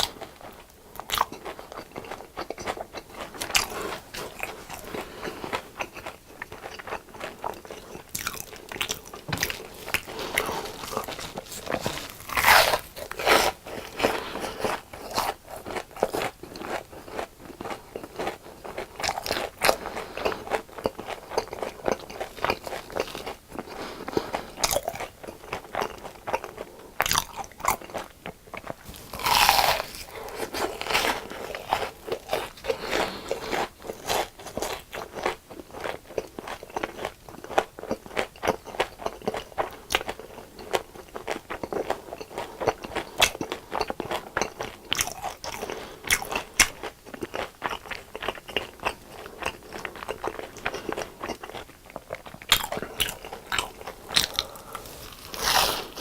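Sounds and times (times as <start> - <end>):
crunchy chewing of fried food: 0.0 - 56.0.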